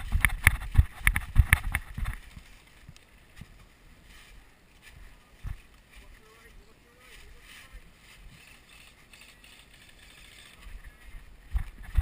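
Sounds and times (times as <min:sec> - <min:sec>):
faint rustles and ticks: 0:00.0 - 0:12.0.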